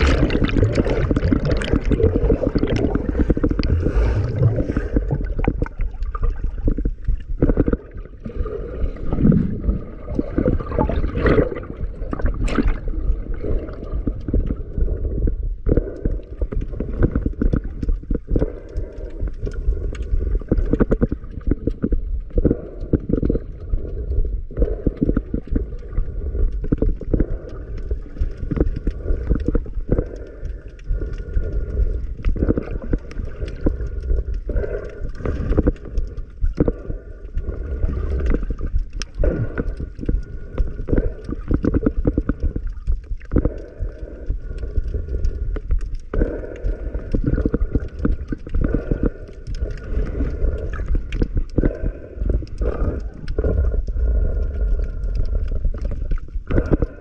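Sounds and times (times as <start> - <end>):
faint steady hum: 0.0 - 57.0
underwater churning rumble: 0.0 - 57.0
underwater clicks and knocks: 0.0 - 57.0.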